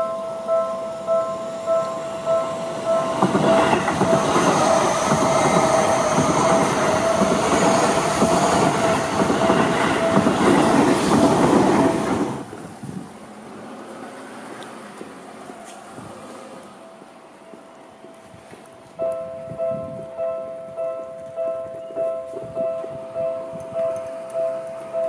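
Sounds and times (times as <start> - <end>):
electric train passing close by: 0.0 - 25.0.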